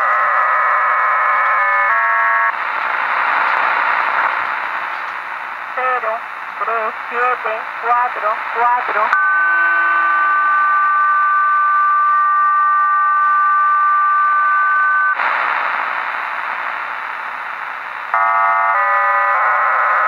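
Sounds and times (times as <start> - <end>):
multi-tone radio signal: 0.0 - 20.0
radio static: 2.4 - 18.8.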